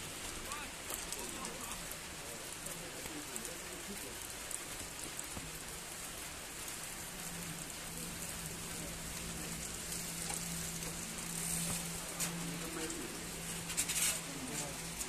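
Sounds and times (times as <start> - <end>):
rain on pavement: 0.0 - 15.0.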